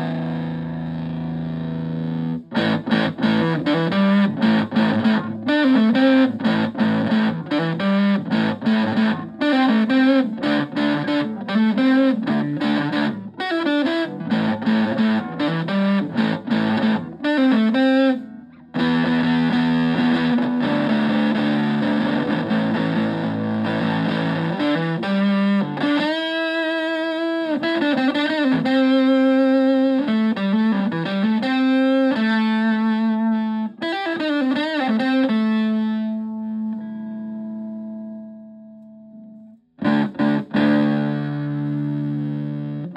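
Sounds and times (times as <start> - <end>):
fuzzed electric guitar: 0.0 - 42.9.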